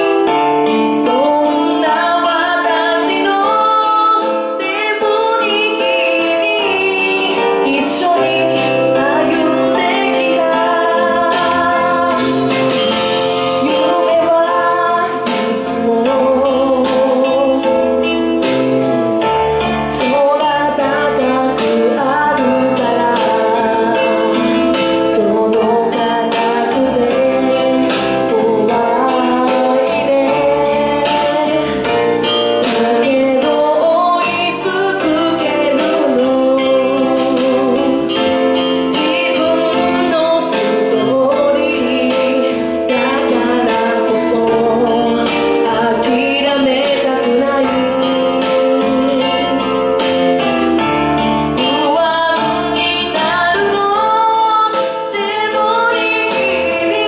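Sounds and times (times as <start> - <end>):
instrumental accompaniment: 0.0 - 57.0
woman singing into microphone: 0.0 - 57.0.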